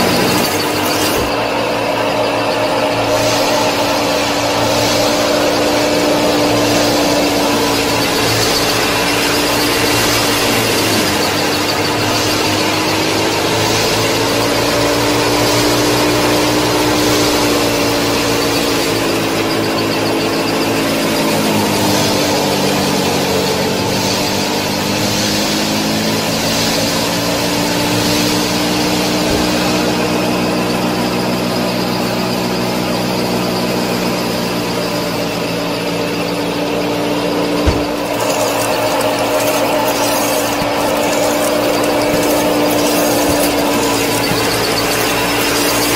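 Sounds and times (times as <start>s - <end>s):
small electric motor whining: 0.0s - 45.9s.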